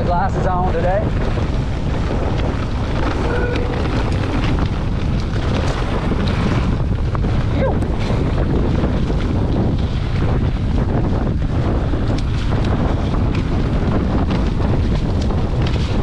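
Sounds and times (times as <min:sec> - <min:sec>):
bike rattling on dirt trail: 0:00.0 - 0:16.0
wind buffeting microphone: 0:00.0 - 0:16.0.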